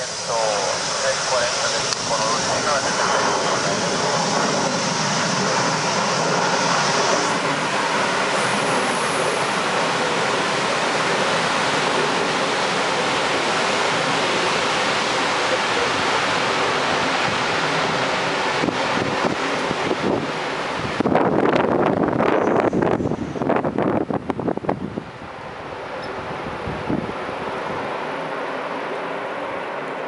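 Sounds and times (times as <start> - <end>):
high jet whine: 0.0 - 30.0
jet engines roaring: 0.0 - 30.0.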